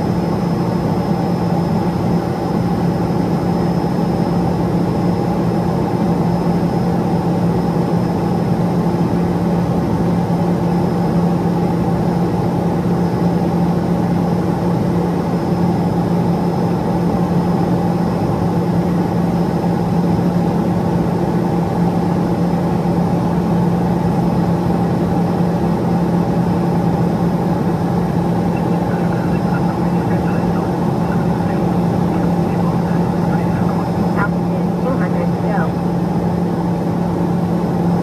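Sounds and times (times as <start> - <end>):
aircraft propeller drone: 0.0 - 38.0
faint high turbine whine: 0.0 - 38.0.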